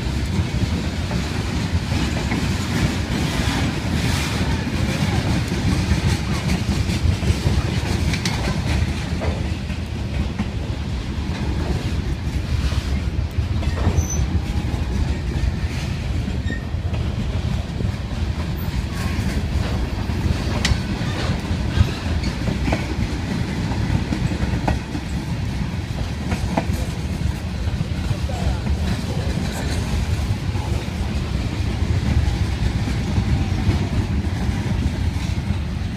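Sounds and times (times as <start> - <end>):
train wheels rumbling on rails: 0.0 - 35.9.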